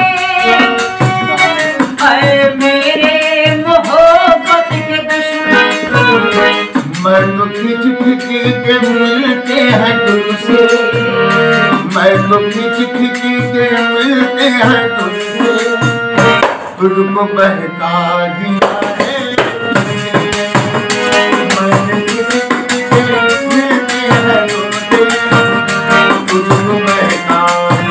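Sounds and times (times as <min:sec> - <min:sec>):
harmonium chords: 0:00.0 - 0:27.9
man singing: 0:00.0 - 0:27.9.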